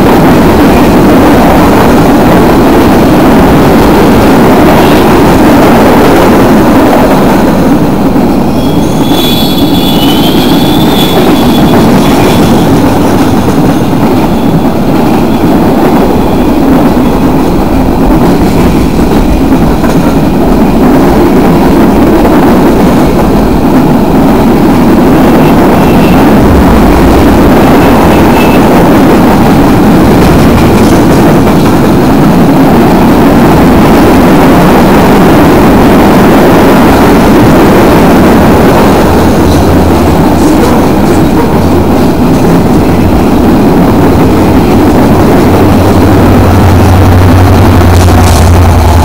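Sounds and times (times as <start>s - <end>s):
locomotive engine drone: 0.0s - 49.0s
train wheels rumbling on rails: 0.0s - 49.0s.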